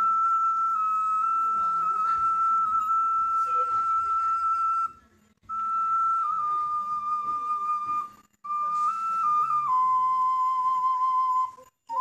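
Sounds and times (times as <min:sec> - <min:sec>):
slow whistle-like melody: 0:00.0 - 0:12.0.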